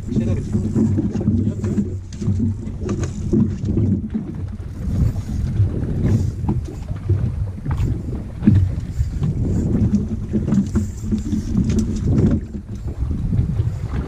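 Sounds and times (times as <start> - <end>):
water around hull: 0.0 - 14.0
wind buffeting microphone: 0.0 - 14.0.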